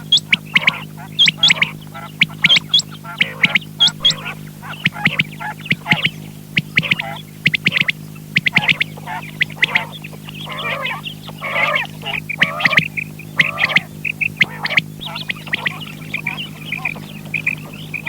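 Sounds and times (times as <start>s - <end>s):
quail calling: 0.0s - 18.0s
steady electrical hum: 0.0s - 18.0s.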